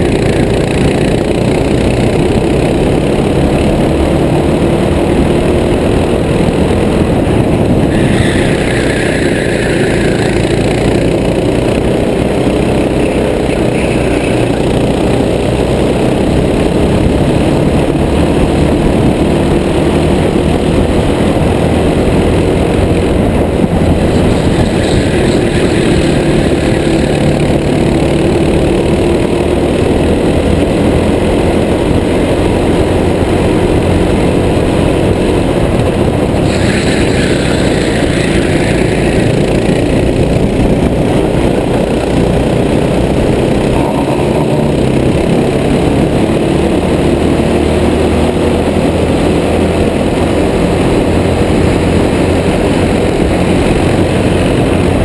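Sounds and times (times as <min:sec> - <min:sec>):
kart engine running hard: 0:00.0 - 0:55.0
rush of noise: 0:00.0 - 0:55.0.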